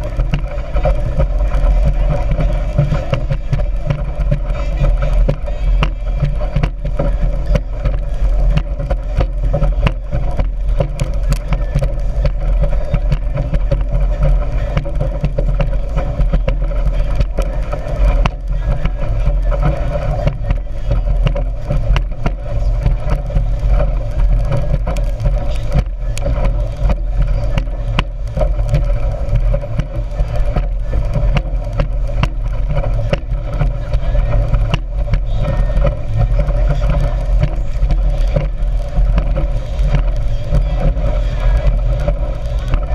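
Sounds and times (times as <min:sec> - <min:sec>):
rushing wind and water: 0:00.0 - 0:42.9
speedboat engine drone: 0:00.0 - 0:42.9.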